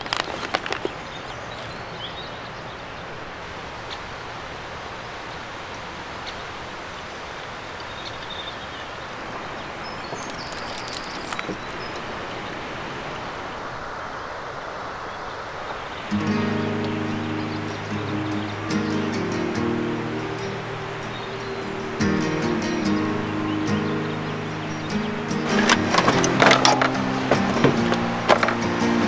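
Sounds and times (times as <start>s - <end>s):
outdoor background rush: 0.0s - 29.0s.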